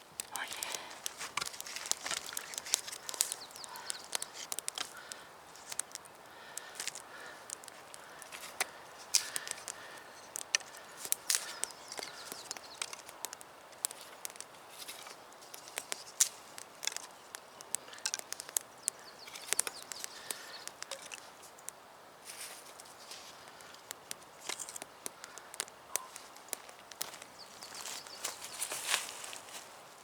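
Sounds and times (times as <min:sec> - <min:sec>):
dry wood snapping and crackling: 0:00.0 - 0:29.8.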